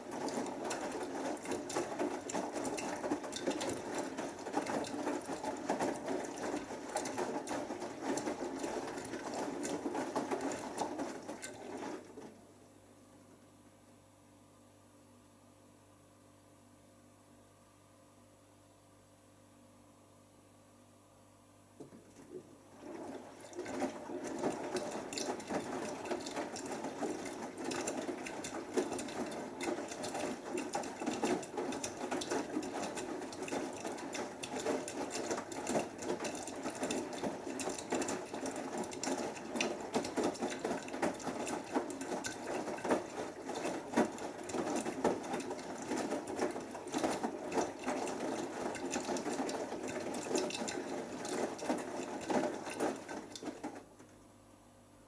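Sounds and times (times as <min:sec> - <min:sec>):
water and laundry splashing: 0:00.0 - 0:12.5, 0:22.0 - 0:53.9
washing machine motor running: 0:00.0 - 0:12.6, 0:21.8 - 0:54.0.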